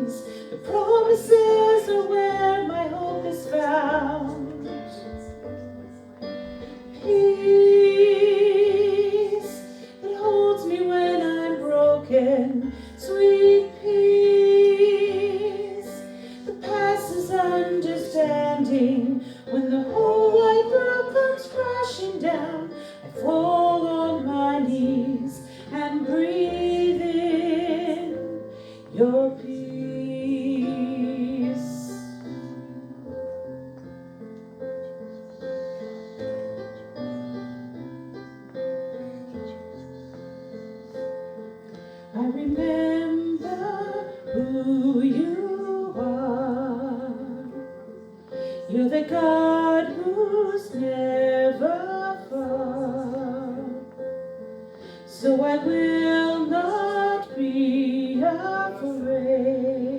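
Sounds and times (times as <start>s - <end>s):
woman singing worship song: 0.0s - 5.4s, 6.6s - 32.6s, 42.2s - 54.1s, 55.1s - 59.9s
sustained keyboard accompaniment: 0.0s - 59.9s.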